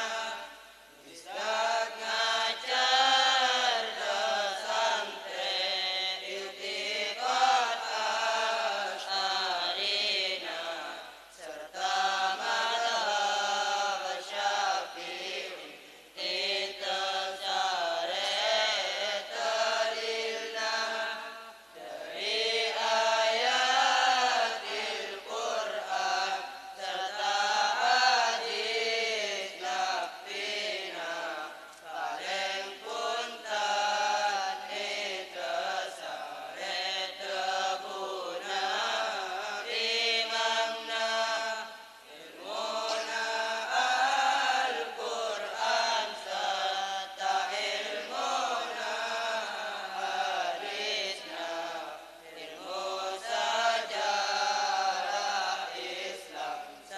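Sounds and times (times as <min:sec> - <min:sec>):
boys chanting in unison: 0:00.0 - 0:56.9.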